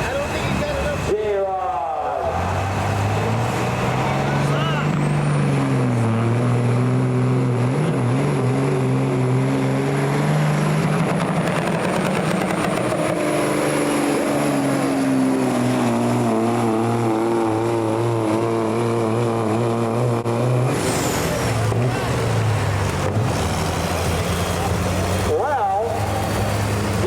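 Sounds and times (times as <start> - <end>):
diesel engine under heavy load: 0.0 - 27.0.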